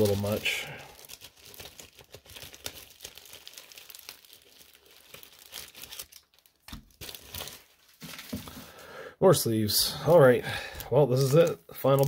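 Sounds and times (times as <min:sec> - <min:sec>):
plastic packaging crinkling: 0:00.0 - 0:08.9, 0:10.7 - 0:12.0.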